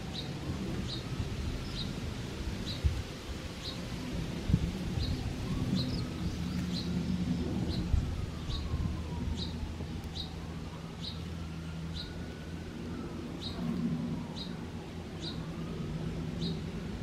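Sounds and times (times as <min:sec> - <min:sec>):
songbird chirping: 0:00.0 - 0:02.0, 0:04.8 - 0:16.9.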